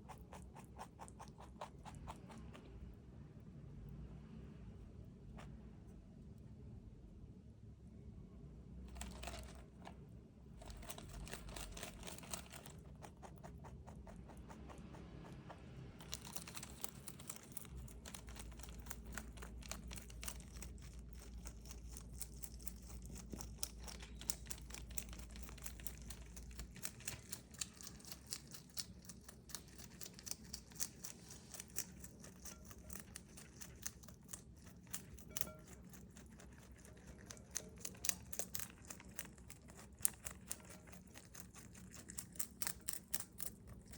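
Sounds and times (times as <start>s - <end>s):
rabbit chewing crunchy greens: 0.0s - 6.4s, 8.8s - 43.9s.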